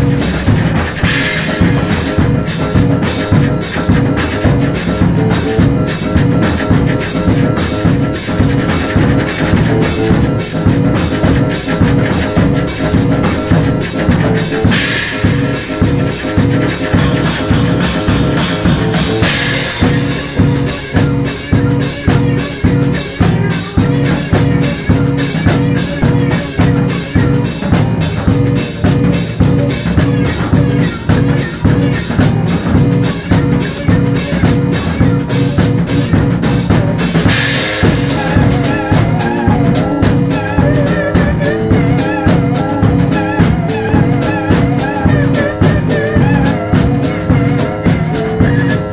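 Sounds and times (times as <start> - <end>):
drum kit beat: 0.0 - 48.9
low repeating bass line: 0.0 - 48.9
trip-hop instrumental music: 0.0 - 48.9.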